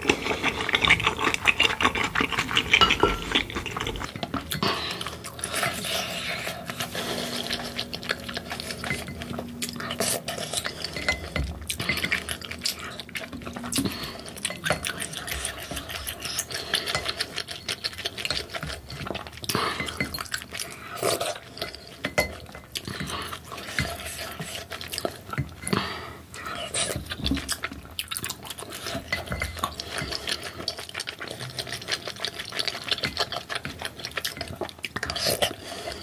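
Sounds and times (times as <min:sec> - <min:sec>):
person chewing: 0:00.0 - 0:36.0.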